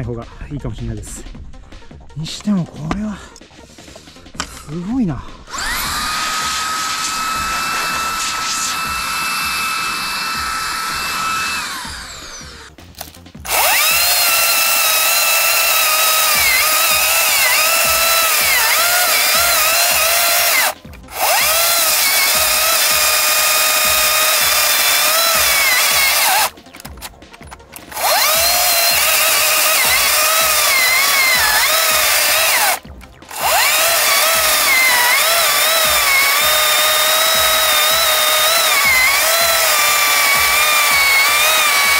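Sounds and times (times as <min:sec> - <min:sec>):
chainsaw cutting through stump: 0:05.5 - 0:26.8, 0:27.8 - 0:41.9
cordless air duster whining: 0:05.5 - 0:27.1, 0:27.7 - 0:41.9.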